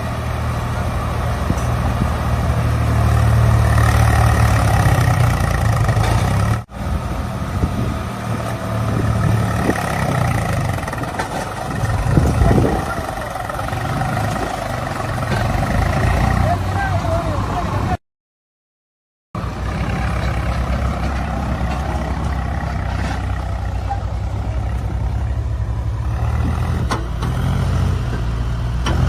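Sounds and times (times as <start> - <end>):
diesel engine running: 0.0 - 18.0, 19.4 - 29.0.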